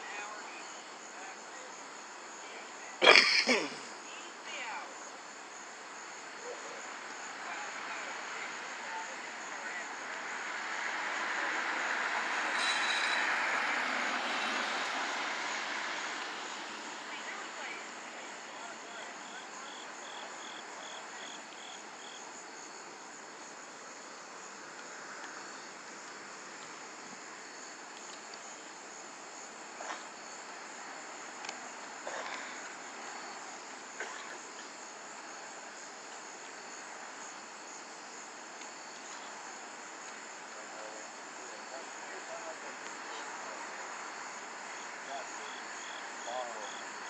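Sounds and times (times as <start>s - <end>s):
background hiss: 0.0s - 47.0s
crickets trilling: 0.0s - 47.0s.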